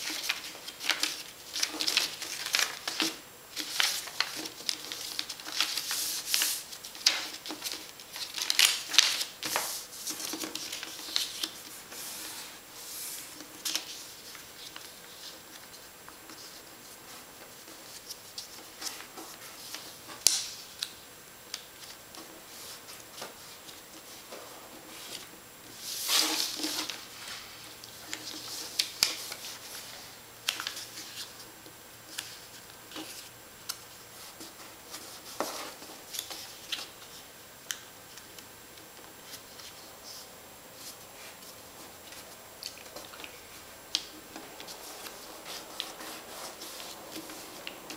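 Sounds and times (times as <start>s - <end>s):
paper rustling: 0.0s - 20.4s, 21.8s - 31.4s, 39.2s - 47.9s.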